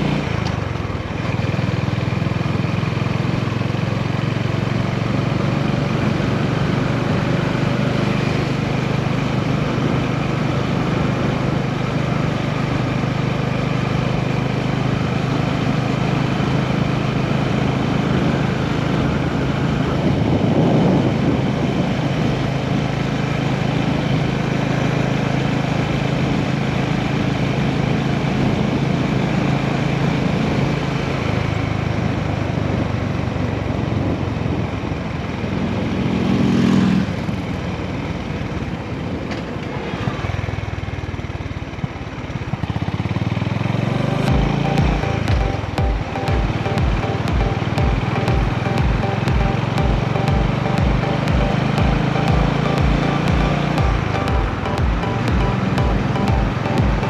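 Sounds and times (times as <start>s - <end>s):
motorcycle engine running: 0.0s - 36.4s, 40.8s - 57.0s.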